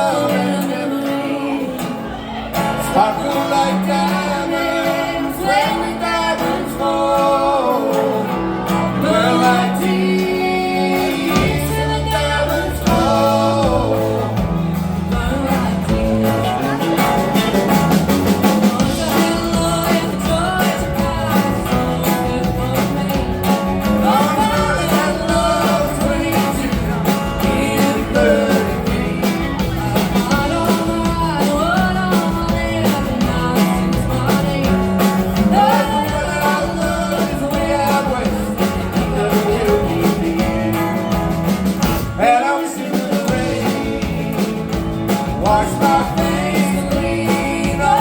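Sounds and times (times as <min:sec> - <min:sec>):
bass: 0:00.0 - 0:48.0
bending lead guitar melody: 0:00.0 - 0:48.0
drums: 0:00.0 - 0:48.0.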